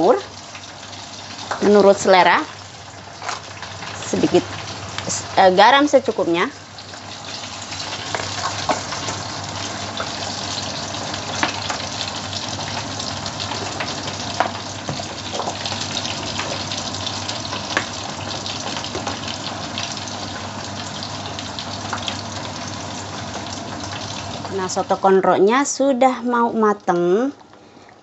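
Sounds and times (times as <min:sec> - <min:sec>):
soup boiling and bubbling: 0:00.0 - 0:25.0, 0:26.7 - 0:28.0.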